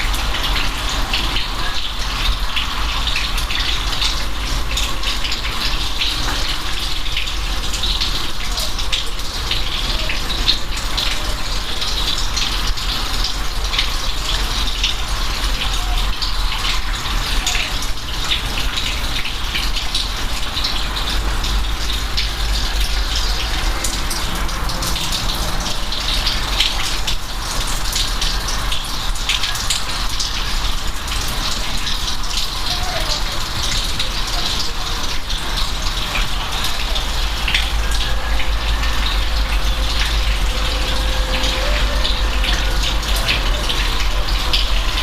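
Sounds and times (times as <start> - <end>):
rain falling: 0.0 - 45.0
raindrop splashes: 0.0 - 45.0.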